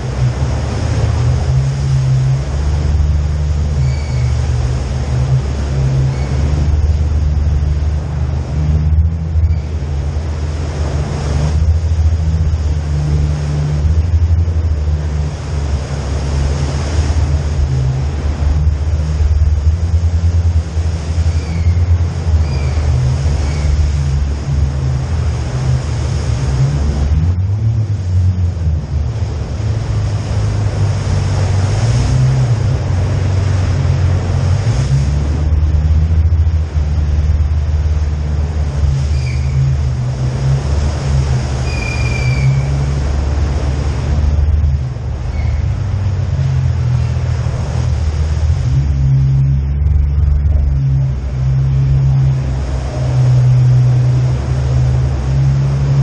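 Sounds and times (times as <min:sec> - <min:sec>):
vehicle engine running at low speed: 0:00.0 - 0:56.0.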